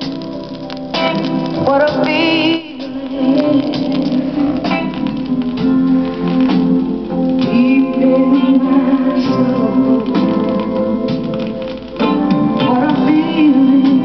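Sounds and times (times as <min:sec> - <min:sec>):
plucked guitar music from record: 0:00.0 - 0:14.0.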